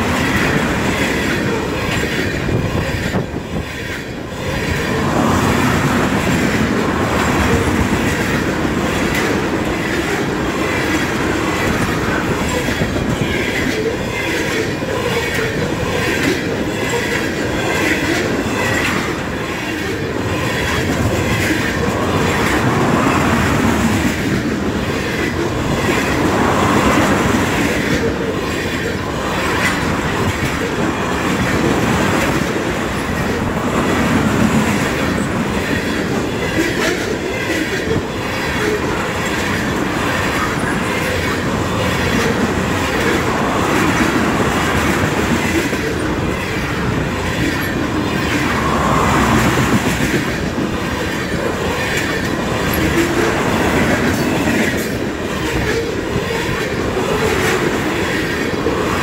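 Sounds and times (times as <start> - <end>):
rhythmic clickety-clack: 0.0 - 59.0
train wheels rumbling on rail: 0.0 - 59.0.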